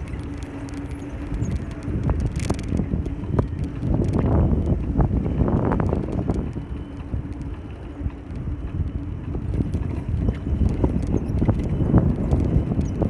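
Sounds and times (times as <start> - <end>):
road rumble: 0.0 - 13.0
wind buffeting microphone: 0.0 - 13.0.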